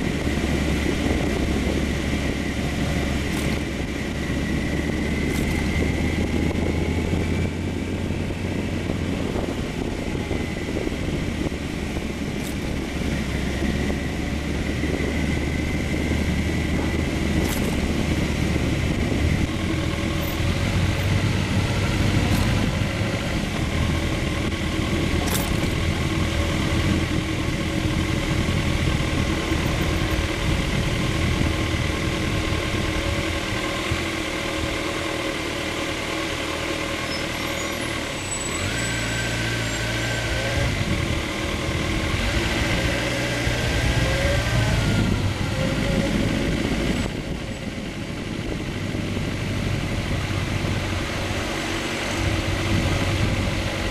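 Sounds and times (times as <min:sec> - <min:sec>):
wind noise: 0:00.0 - 0:34.8, 0:38.6 - 0:53.9
motorcycle engine running: 0:00.0 - 0:53.9
road noise: 0:00.0 - 0:53.9.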